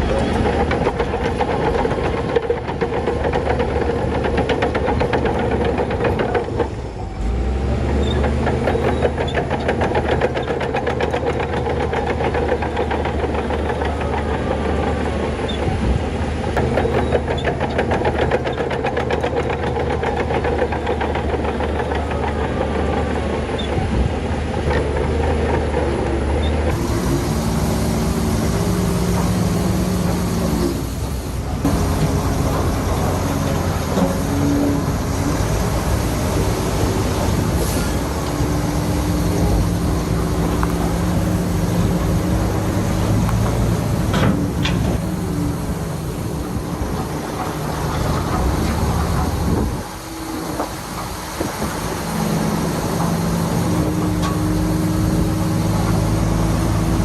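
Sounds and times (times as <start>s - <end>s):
heavy diesel engine clattering: 0.0s - 57.0s.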